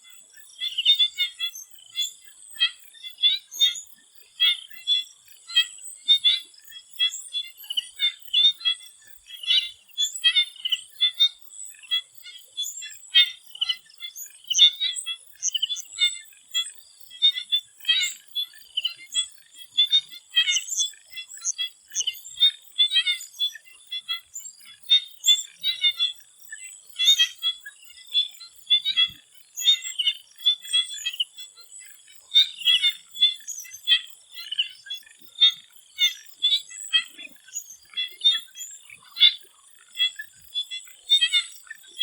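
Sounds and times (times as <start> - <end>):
frogs calling in pulsed bursts: 0.0 - 42.0.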